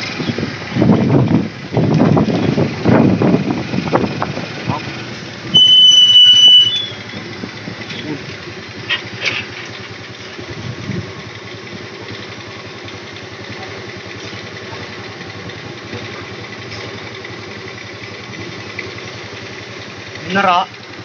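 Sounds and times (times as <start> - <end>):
small motorcycle engine droning: 0.0 - 21.0.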